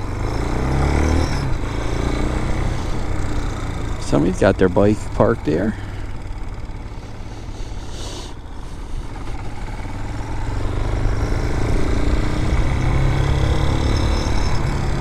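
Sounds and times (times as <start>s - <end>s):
dirt bike engine accelerating: 0.0s - 15.0s.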